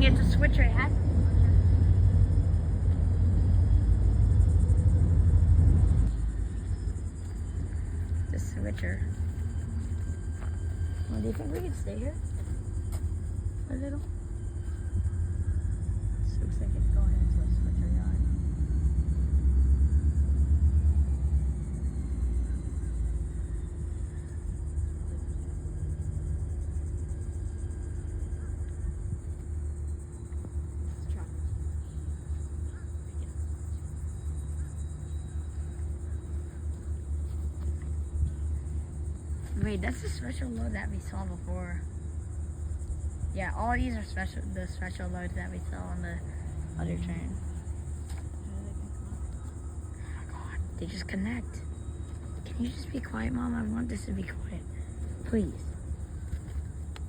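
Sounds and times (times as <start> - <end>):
diesel locomotive rumbling: 0.0 - 57.0
faint steady hum: 0.0 - 57.0.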